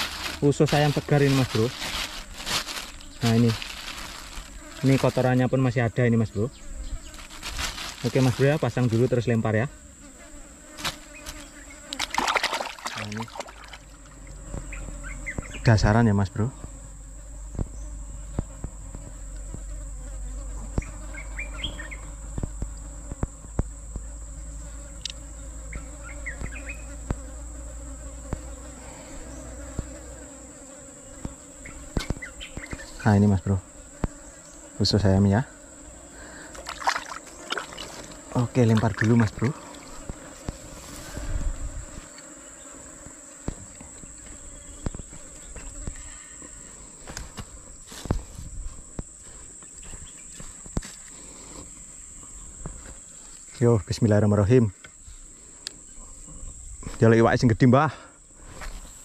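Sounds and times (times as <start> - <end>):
high-pitched insect drone: 10.8 - 59.0.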